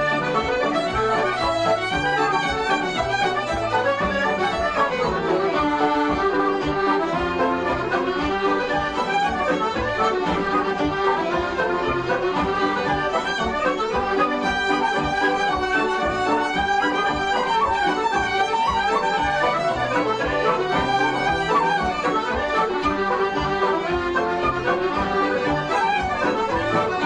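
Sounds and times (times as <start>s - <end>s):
lively irish instrumental music: 0.0s - 27.0s.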